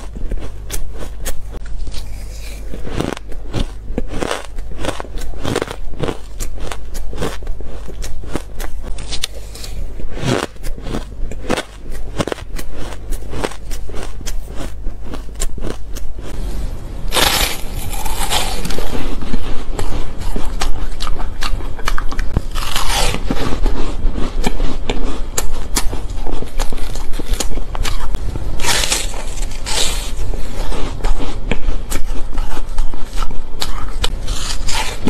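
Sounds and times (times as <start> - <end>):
ice being chewed: 0.0 - 16.4, 17.1 - 35.0.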